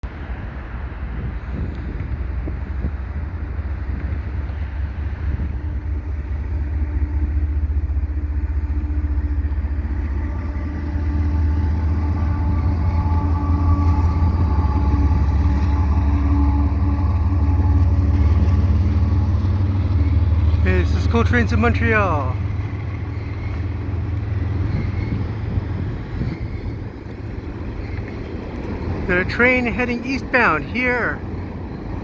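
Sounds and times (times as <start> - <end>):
freight train rumble: 0.0 - 32.0
locomotive engine drone: 0.0 - 32.0.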